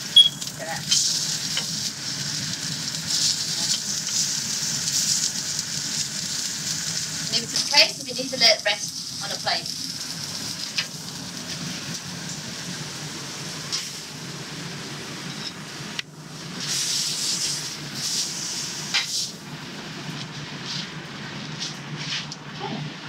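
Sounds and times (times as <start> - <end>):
meat sizzling in a griddle pan: 0.0 - 22.2.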